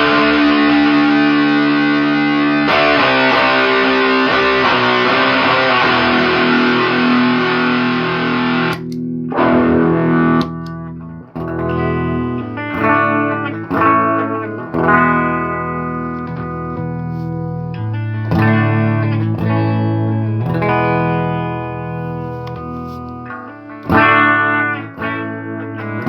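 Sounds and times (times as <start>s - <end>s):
fuzz-distorted electric guitar: 0.0s - 26.0s.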